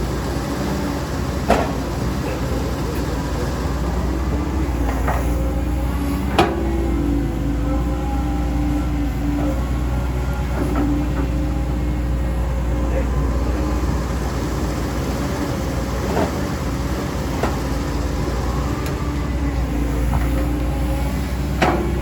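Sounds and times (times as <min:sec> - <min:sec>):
diesel engine running: 0:00.0 - 0:22.0
hydraulics whine: 0:00.0 - 0:22.0.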